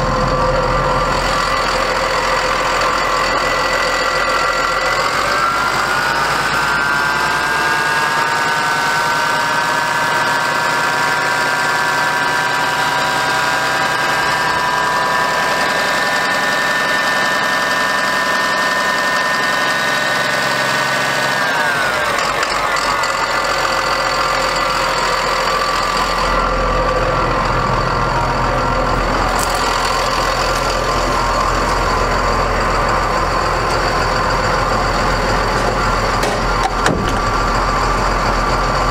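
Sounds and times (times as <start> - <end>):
diesel engine idling: 0.0 - 38.9
engine whine: 0.0 - 38.9.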